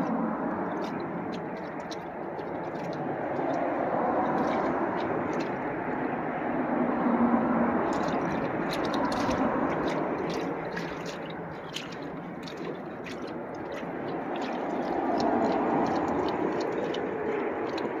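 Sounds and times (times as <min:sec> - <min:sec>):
dog lapping water: 0:00.0 - 0:18.0
low background rumble: 0:00.0 - 0:18.0.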